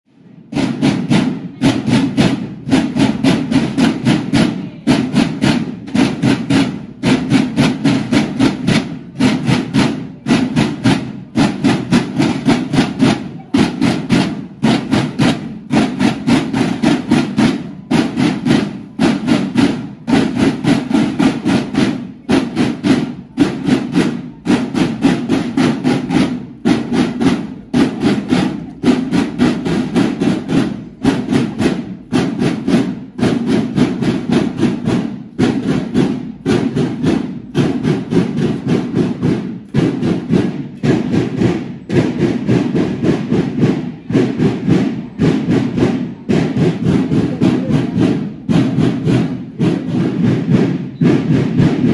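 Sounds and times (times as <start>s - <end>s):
marching snare drums: 0.1s - 51.9s.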